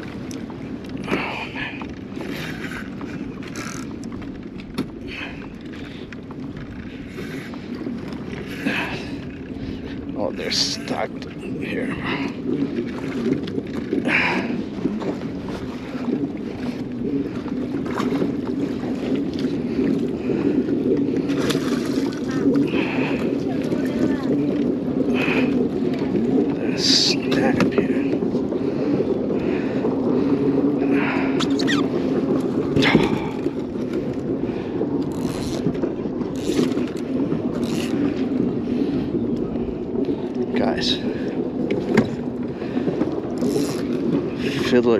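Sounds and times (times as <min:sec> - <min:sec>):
water slapping against kayak hull: 0:00.0 - 0:44.9
wind on microphone: 0:00.0 - 0:44.9.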